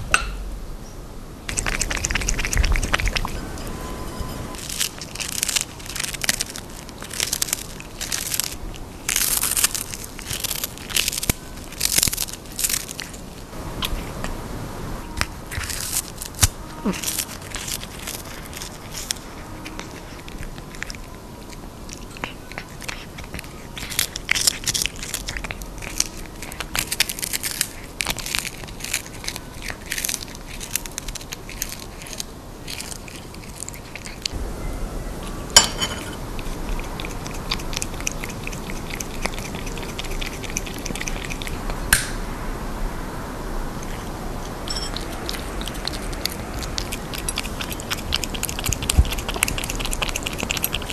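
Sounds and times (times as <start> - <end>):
cat crunching food: 1.5 - 14.4, 15.0 - 34.4, 35.2 - 42.1, 43.8 - 50.9.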